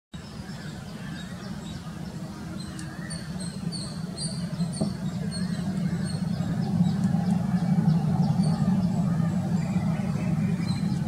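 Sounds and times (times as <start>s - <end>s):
birds chirping: 0.2s - 11.0s
distant jet engines rumbling: 0.3s - 11.0s.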